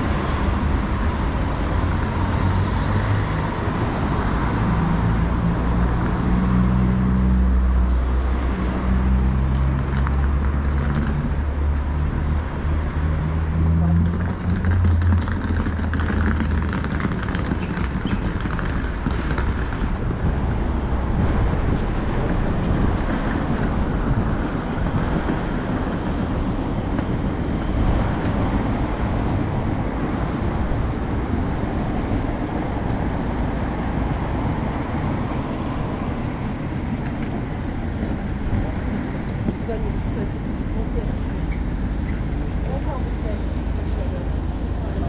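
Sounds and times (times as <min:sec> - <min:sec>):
road traffic passing: 0:00.0 - 0:45.0.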